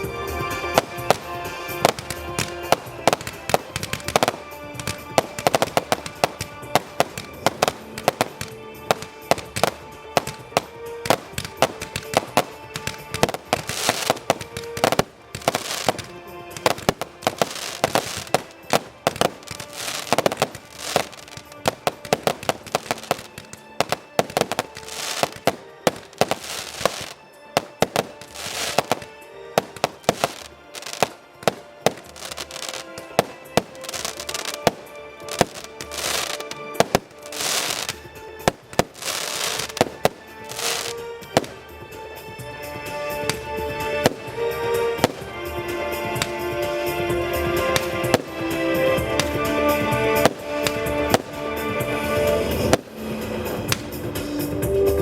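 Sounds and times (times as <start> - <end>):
fireworks bangs and crackles: 0.0 - 55.0
music playing: 0.0 - 55.0.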